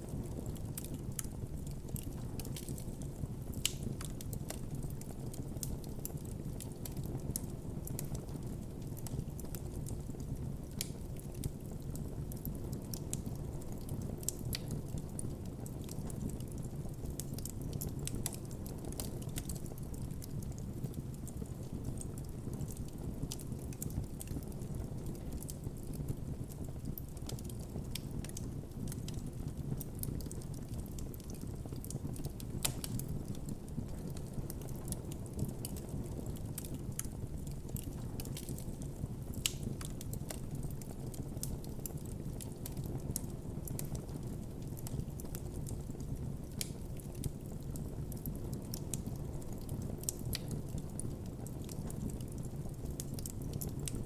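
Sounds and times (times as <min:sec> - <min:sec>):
campfire flame rumble: 0:00.0 - 0:54.0
fire crackling and popping: 0:00.0 - 0:54.0.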